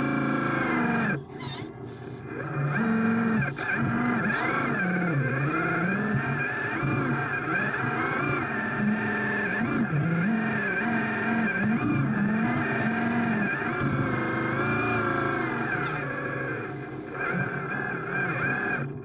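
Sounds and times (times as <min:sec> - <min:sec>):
model motor whine: 0:00.0 - 0:19.0.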